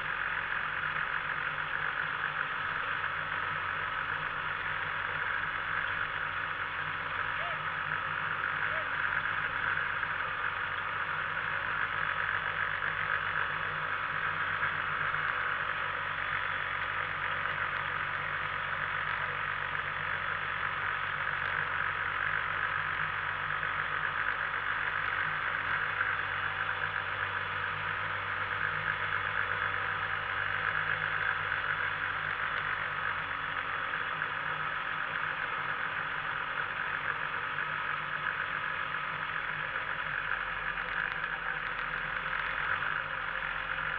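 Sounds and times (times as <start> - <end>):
two-stroke engine idling: 0.0 - 43.9.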